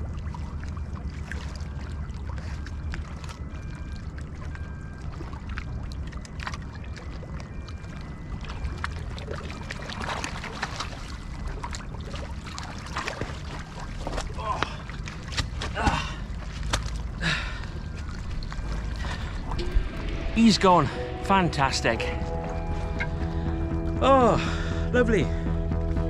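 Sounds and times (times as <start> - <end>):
splashing in water: 0.0 - 20.9.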